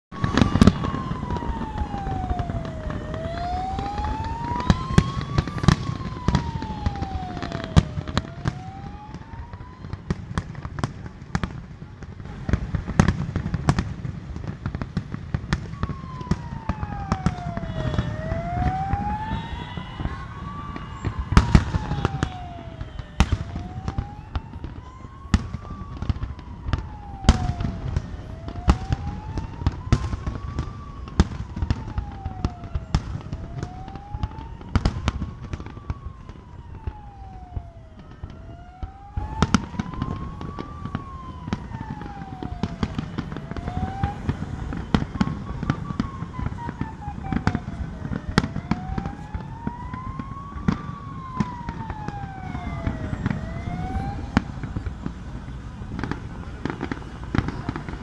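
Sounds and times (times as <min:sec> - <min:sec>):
fireworks bangs and crackles: 0:00.1 - 0:58.0
siren wailing: 0:00.1 - 0:58.0.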